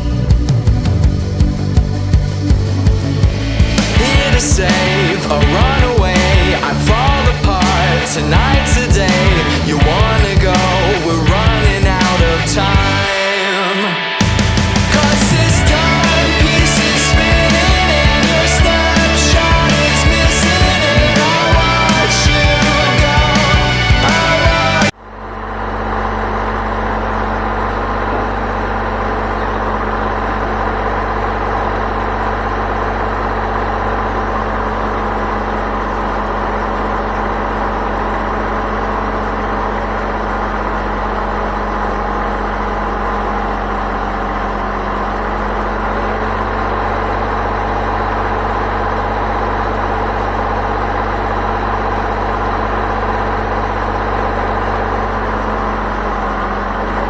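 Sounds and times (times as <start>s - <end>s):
engine running steadily: 0.0s - 13.2s, 14.0s - 57.0s.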